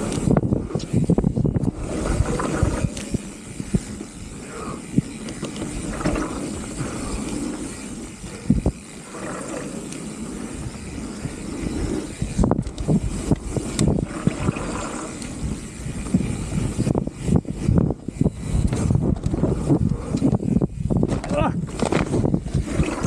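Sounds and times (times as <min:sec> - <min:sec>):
bike knocking and rattling: 0:00.0 - 0:23.0
bike tyres on dirt: 0:00.0 - 0:23.0
wind on microphone: 0:00.0 - 0:23.0.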